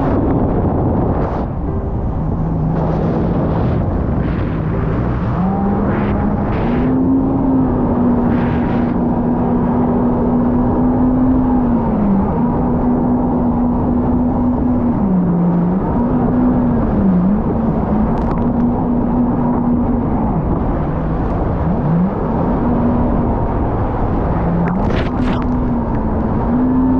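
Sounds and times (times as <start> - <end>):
jet ski engine running: 0.0 - 26.9
steady rushing noise: 0.0 - 26.9.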